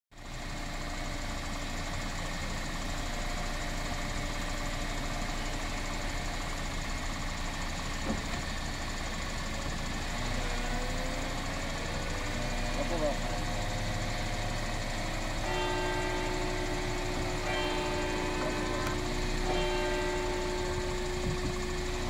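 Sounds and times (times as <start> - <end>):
car engine idling: 0.2 - 22.0.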